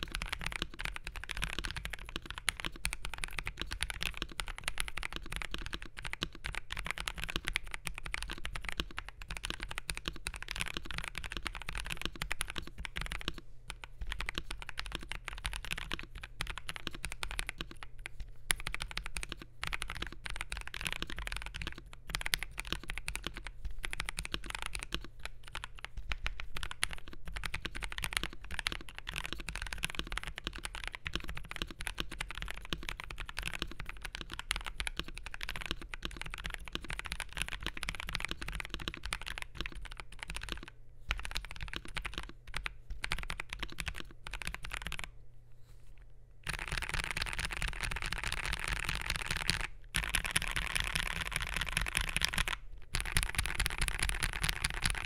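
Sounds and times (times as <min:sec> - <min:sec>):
fast mechanical keyboard typing: 0:00.0 - 0:45.1, 0:46.4 - 0:55.0.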